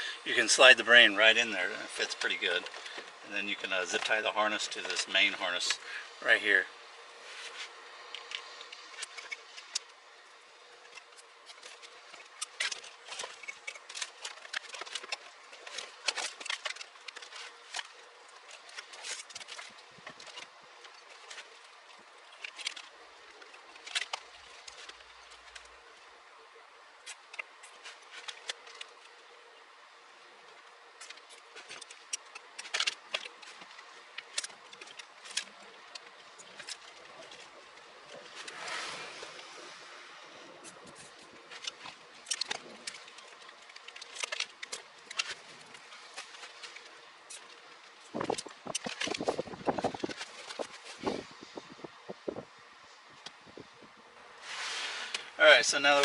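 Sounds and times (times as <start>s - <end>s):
plastic wiring rustling: 0.0s - 56.0s
clicks and rattles of plastic parts: 0.3s - 5.9s, 8.0s - 10.0s, 10.7s - 38.6s, 40.6s - 52.5s.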